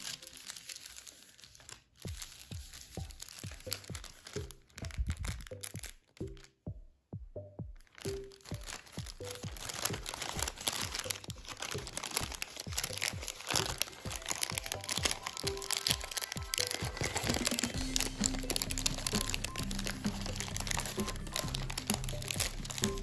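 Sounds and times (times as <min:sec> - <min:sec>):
paper crinkling: 0:00.0 - 0:06.5, 0:07.8 - 0:23.0
background music with pitched notes: 0:02.0 - 0:23.0.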